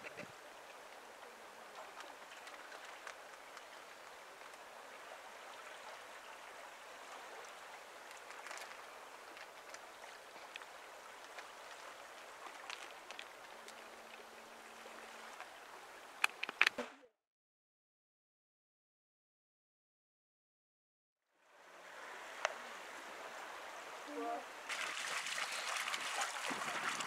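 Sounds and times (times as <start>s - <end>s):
water lapping at shore: 0.0s - 16.8s, 21.4s - 27.0s.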